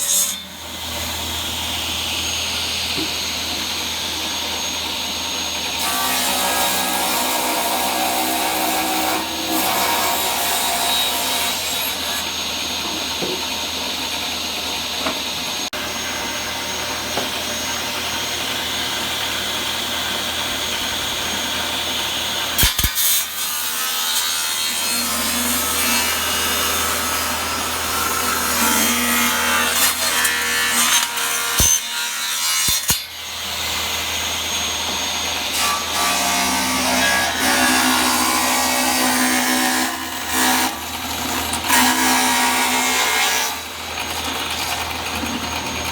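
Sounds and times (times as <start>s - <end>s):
table saw cutting wood: 0.0s - 45.9s.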